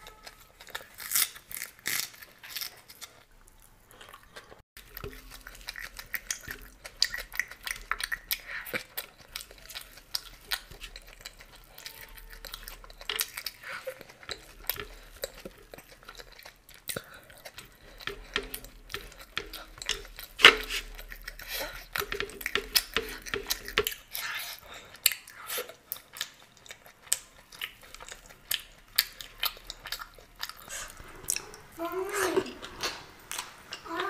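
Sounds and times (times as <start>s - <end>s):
close chewing and mouth sounds: 0.0s - 34.0s.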